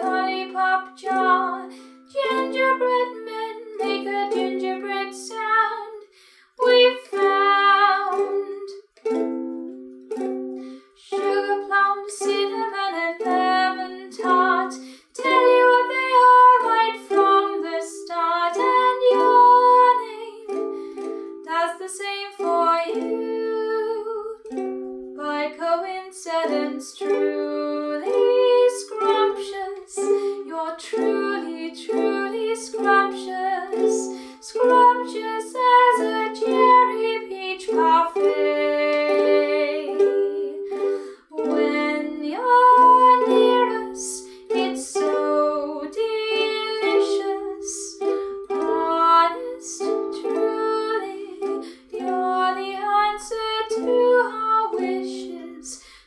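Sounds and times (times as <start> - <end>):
woman singing: 0.0 - 9.2, 10.6 - 24.6, 25.2 - 56.0
ukulele playing: 0.0 - 55.8.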